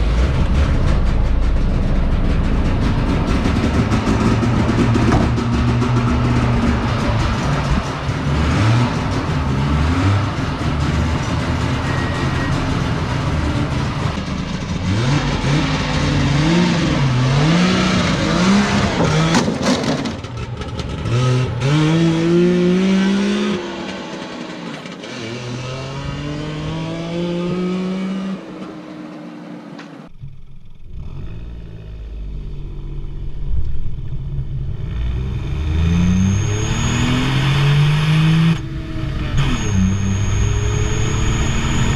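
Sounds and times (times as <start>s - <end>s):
car engines revving and accelerating: 2.7s - 30.1s, 34.8s - 41.9s.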